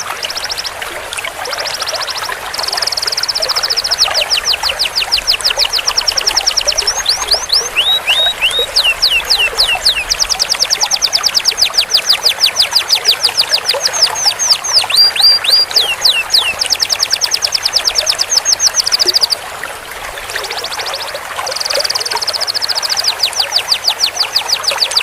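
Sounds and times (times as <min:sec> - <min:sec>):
canary singing: 0:01.6 - 0:19.4, 0:20.5 - 0:25.0.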